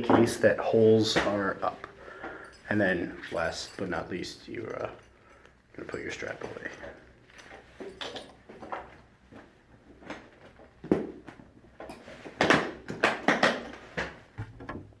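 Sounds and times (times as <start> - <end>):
handling knocks and rustles: 0.0 - 15.0.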